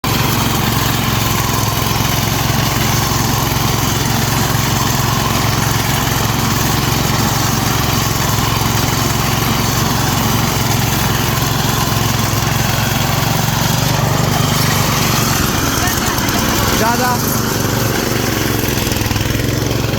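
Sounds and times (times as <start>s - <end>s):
reaper engine droning: 0.0s - 19.9s.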